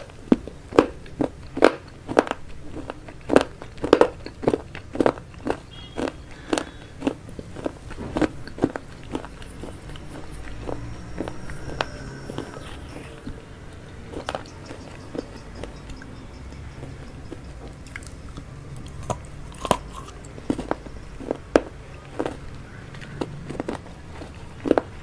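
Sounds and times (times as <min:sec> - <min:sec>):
chewing noodles with wet smacks: 0:00.0 - 0:25.0.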